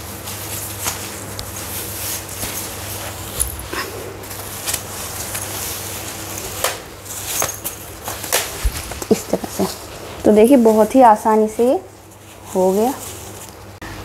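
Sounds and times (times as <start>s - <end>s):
mosquito net rustling and swishing: 0.0s - 13.6s
steady low hum: 0.0s - 14.0s.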